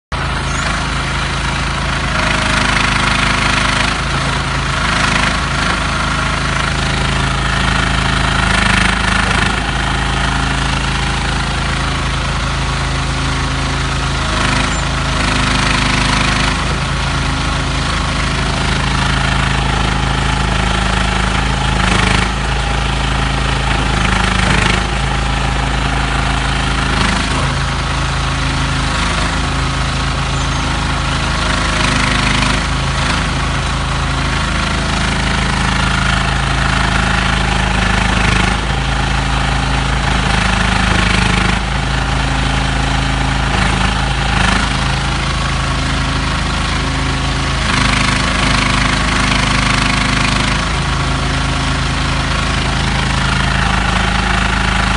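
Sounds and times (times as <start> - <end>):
excavator engine running: 0.0 - 54.9.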